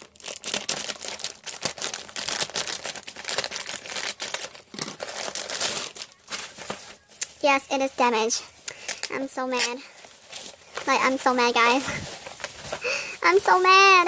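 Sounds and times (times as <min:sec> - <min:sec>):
package wrapping crinkling and tearing: 0:00.0 - 0:14.0.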